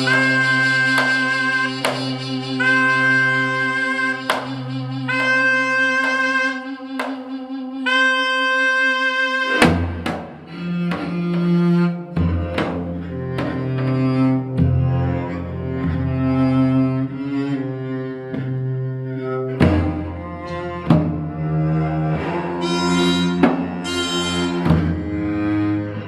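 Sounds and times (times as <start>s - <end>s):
double-reed wind held notes: 0.0s - 26.0s.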